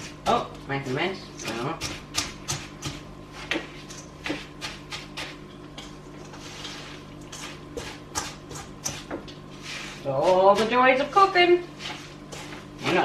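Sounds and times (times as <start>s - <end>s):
utensil scraping and tapping bowl: 1.4s - 10.7s, 11.8s - 13.0s.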